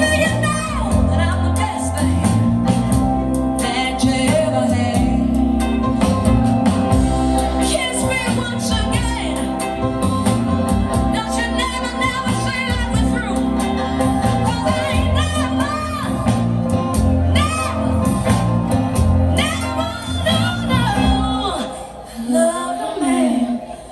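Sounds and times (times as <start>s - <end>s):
bass notes and beat: 0.0s - 21.5s.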